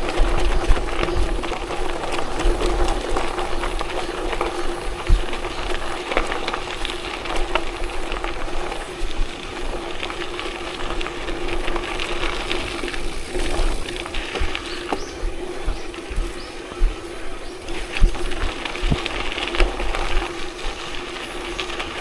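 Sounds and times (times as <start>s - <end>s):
tyres crackling on gravel: 0.0s - 22.0s
wind rumble on microphone: 0.0s - 22.0s.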